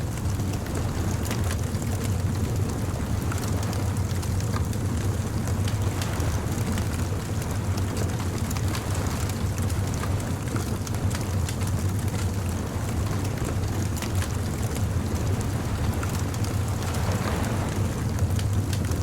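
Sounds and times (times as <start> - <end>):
bonfire crackling: 0.0 - 19.0.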